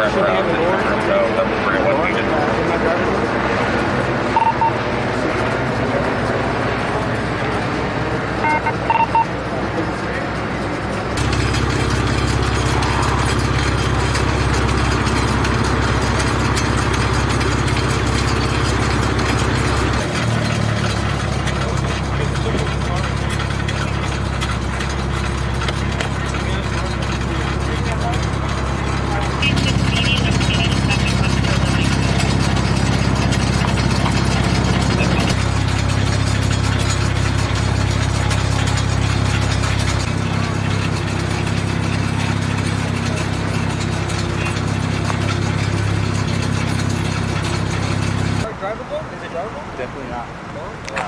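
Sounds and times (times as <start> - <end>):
vehicle engine idling: 0.0 - 51.0.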